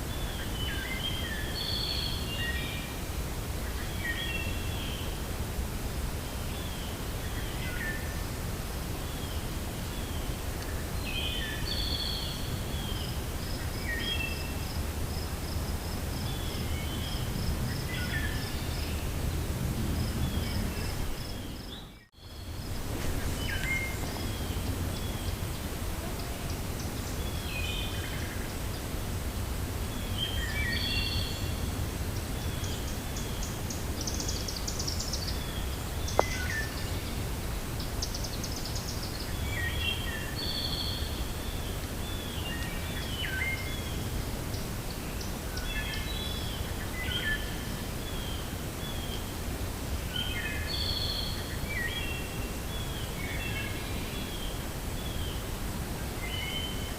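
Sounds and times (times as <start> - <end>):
songbirds chirping: 0.0 - 56.9
wind blowing with low rumble: 0.0 - 56.9.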